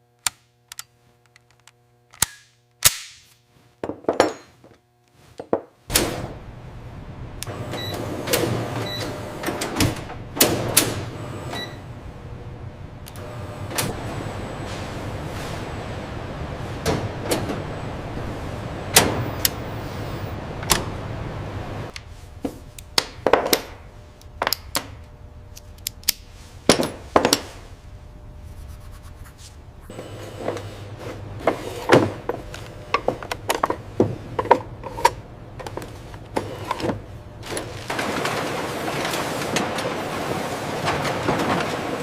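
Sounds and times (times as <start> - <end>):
workshop hum: 0.0 - 42.0.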